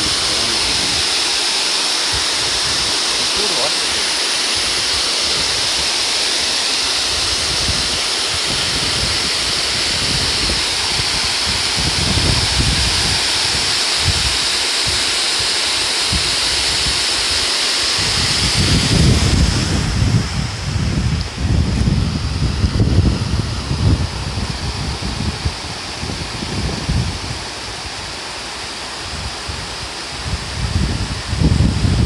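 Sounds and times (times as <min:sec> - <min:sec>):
wind buffeting microphone: 0:00.0 - 0:01.3, 0:02.0 - 0:28.2, 0:29.0 - 0:32.0
water rushing: 0:00.0 - 0:32.0.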